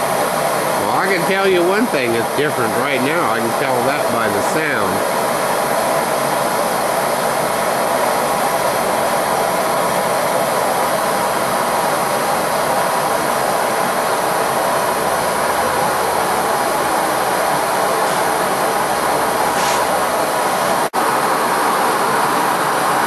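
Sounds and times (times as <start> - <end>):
torch flame rushing: 0.4 - 20.9.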